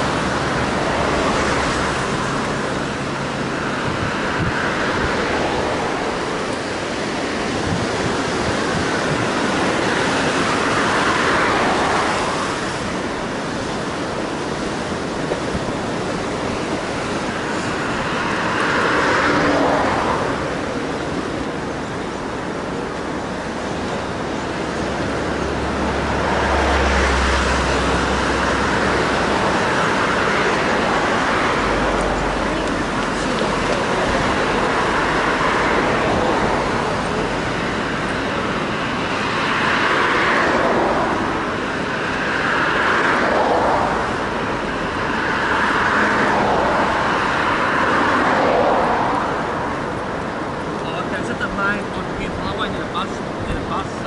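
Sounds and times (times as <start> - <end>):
wind rumble on microphone: 0.0 - 50.8
cars passing: 0.0 - 54.0
surf: 0.0 - 54.0
wind: 0.0 - 54.0.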